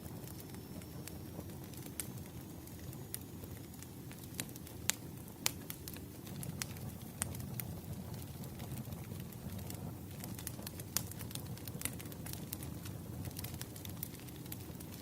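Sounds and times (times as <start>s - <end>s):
fire popping and crackling: 0.0s - 15.0s
wood fire flames rustling: 0.0s - 15.0s.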